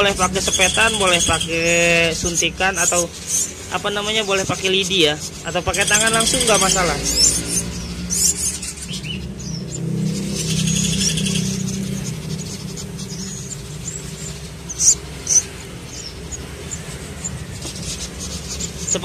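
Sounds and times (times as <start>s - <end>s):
nestling birds chirping: 0.0s - 19.0s
sharp bird calls: 0.0s - 19.0s.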